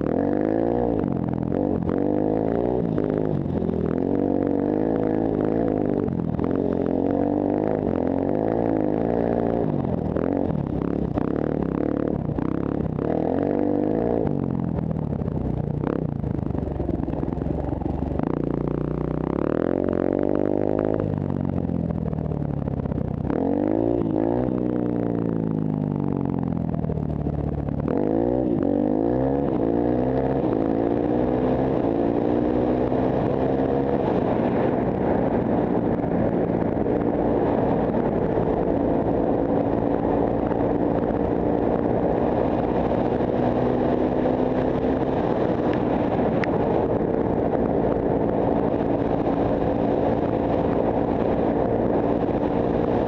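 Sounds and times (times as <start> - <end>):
motorcycle engine accelerating: 0.0 - 53.0
wind rushing over microphone: 0.0 - 53.0.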